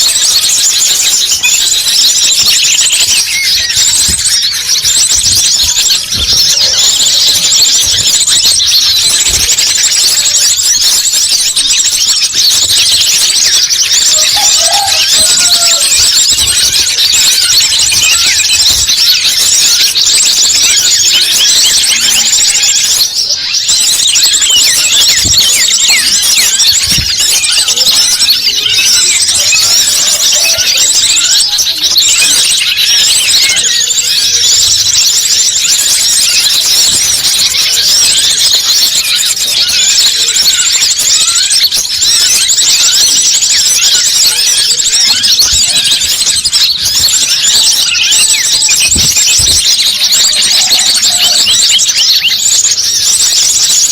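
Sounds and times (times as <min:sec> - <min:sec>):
chorus of small birds chirping: 0:00.0 - 0:53.9.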